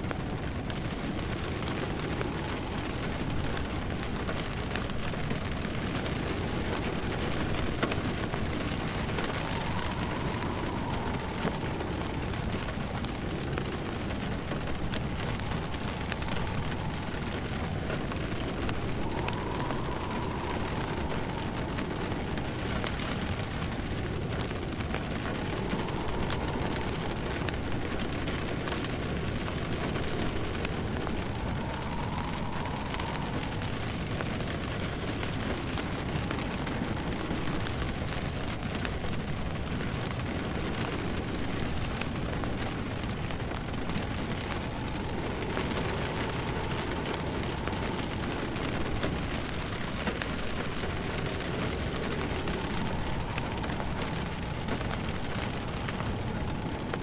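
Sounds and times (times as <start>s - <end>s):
small pops of fire: 0.0s - 57.0s
steady rain: 0.0s - 57.0s
wood fire crackling: 0.0s - 57.0s.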